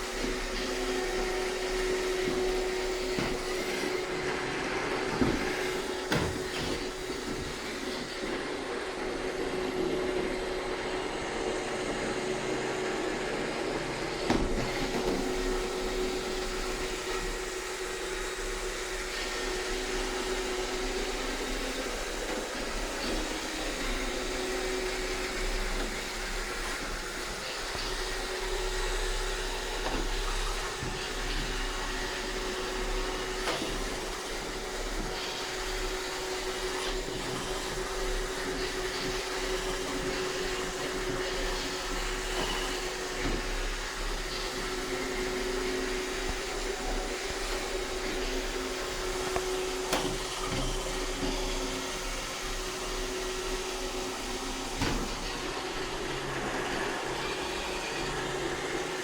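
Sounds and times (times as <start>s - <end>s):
robot vacuum running: 0.0s - 59.0s.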